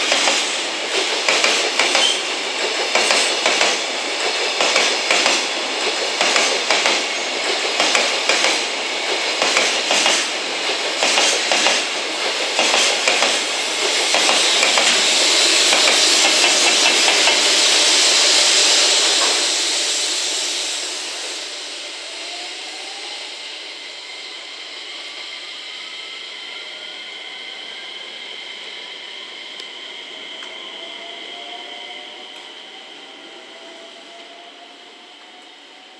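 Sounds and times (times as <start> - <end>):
electric locomotive rushing past: 0.0 - 35.9
train rumble with rising whine: 0.0 - 35.9.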